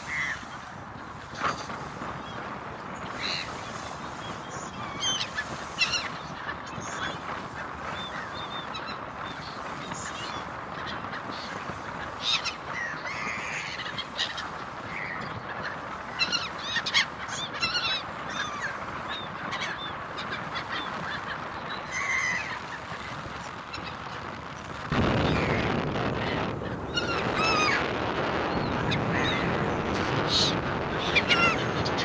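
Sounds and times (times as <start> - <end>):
ferry wake and engine rush: 0.0 - 32.0
gulls calling: 0.0 - 32.0.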